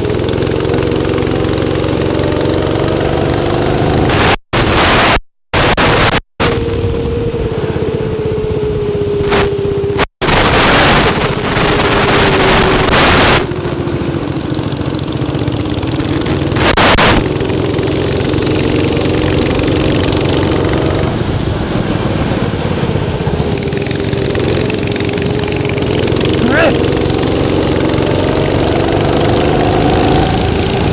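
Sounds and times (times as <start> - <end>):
go-kart engines running: 0.0 - 4.4, 6.4 - 30.9
karts rushing past: 0.0 - 5.1, 6.4 - 30.9.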